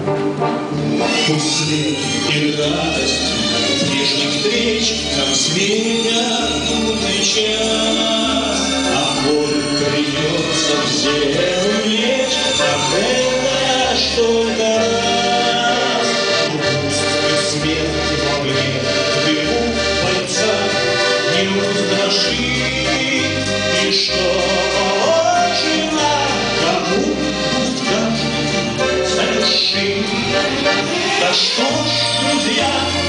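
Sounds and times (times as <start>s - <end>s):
accordion playing waltz: 0.0s - 33.0s
man singing: 1.0s - 33.0s.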